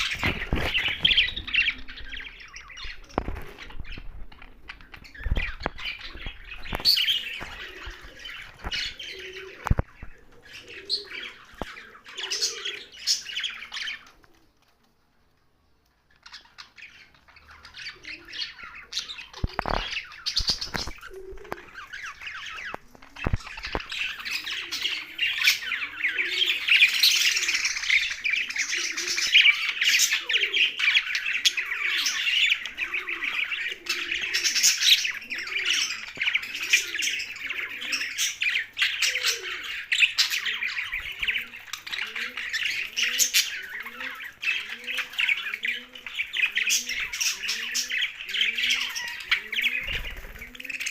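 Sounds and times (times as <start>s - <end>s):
budgerigars chattering and squawking: 0.0s - 14.2s, 16.2s - 50.9s.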